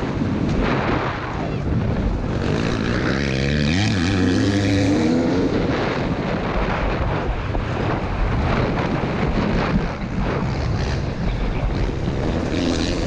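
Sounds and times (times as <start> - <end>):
track noise: 0.0 - 13.0
wind noise: 0.0 - 13.0
dirt bike engine revving: 0.1 - 6.8, 7.9 - 13.0.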